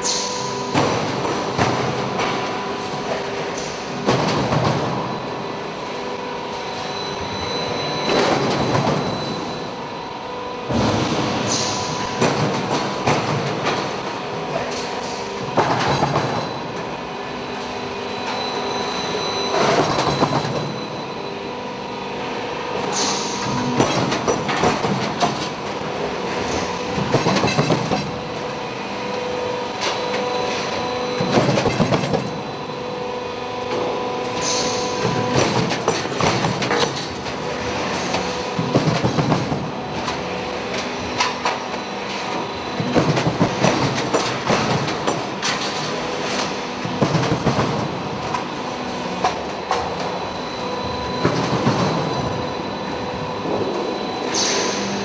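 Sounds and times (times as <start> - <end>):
machine and hydraulic hum: 0.0 - 55.0.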